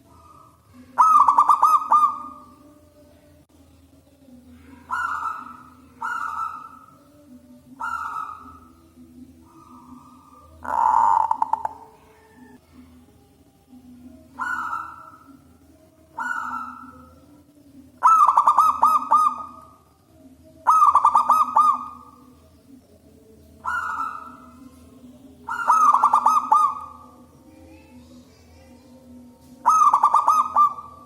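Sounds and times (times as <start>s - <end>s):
dove cooing: 0.0s - 2.8s, 4.5s - 12.9s, 14.2s - 19.8s, 20.6s - 22.6s, 23.2s - 28.0s, 28.7s - 31.0s.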